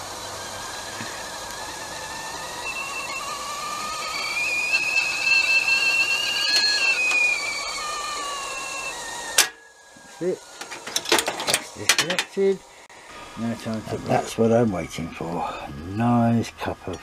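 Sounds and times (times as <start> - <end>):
kettle whistling: 0.0 - 17.0
steady kettle hiss: 0.0 - 17.0.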